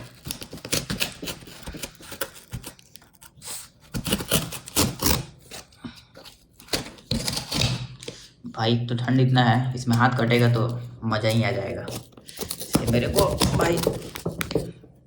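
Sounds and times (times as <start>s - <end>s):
knife cutting tape and cardboard: 0.0s - 8.2s, 9.8s - 14.7s.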